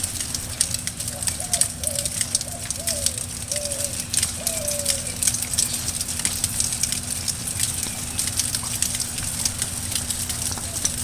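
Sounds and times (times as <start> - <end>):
low steady hum: 0.0 - 11.0
rain pattering: 0.0 - 11.0.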